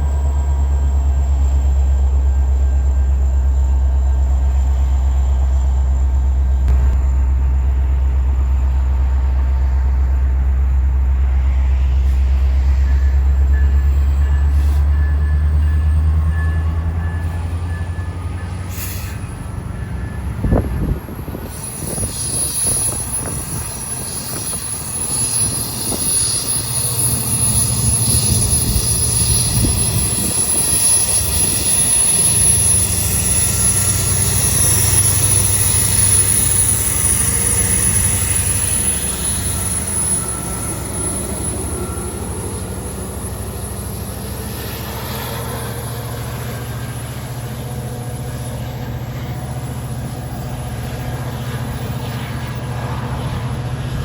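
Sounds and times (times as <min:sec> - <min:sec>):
diesel locomotive rumbling: 0:00.0 - 0:54.0.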